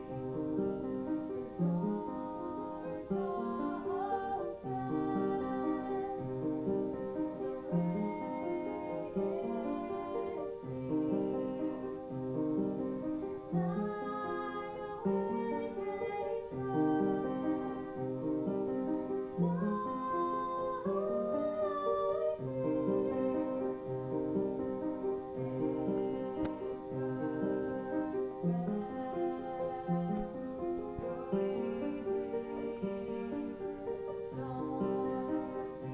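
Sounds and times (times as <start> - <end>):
piano chords: 0.0 - 35.9
woman singing: 0.0 - 35.9.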